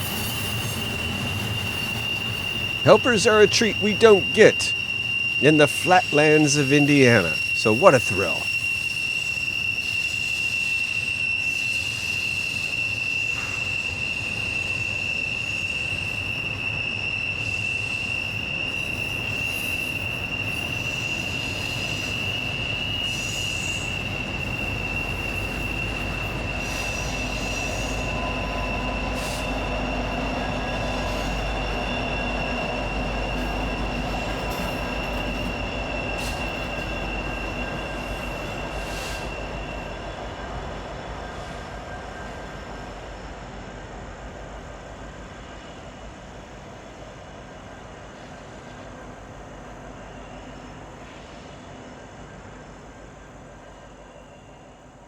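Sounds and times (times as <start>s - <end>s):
train wheels squealing: 0.0s - 5.4s, 8.3s - 55.0s.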